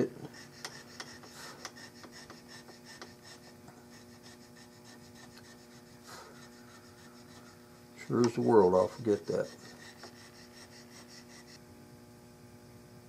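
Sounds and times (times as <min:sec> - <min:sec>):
checkering tool scraping wood: 0:00.0 - 0:11.6
low steady hum: 0:00.0 - 0:13.0.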